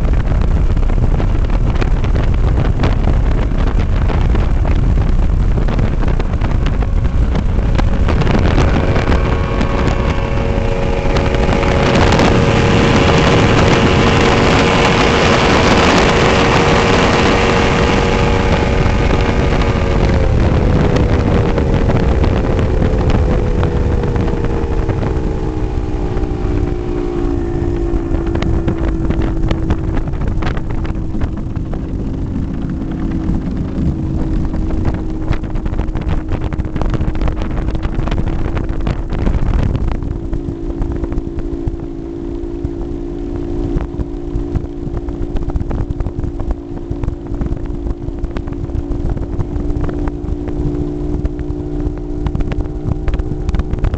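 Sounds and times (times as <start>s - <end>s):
outboard engine running: 0.0s - 53.9s
rushing water: 0.0s - 53.9s
wind: 0.0s - 53.9s.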